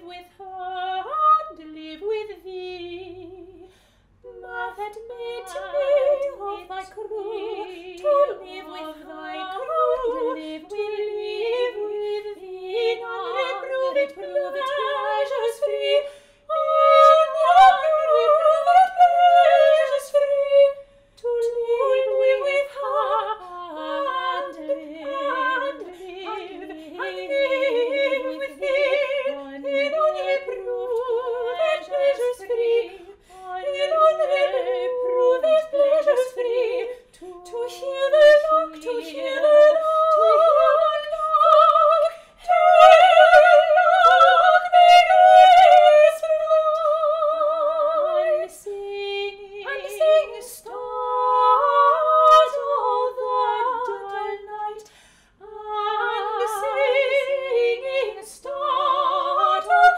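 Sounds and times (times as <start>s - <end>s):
two soprano voices singing: 0.0s - 59.9s.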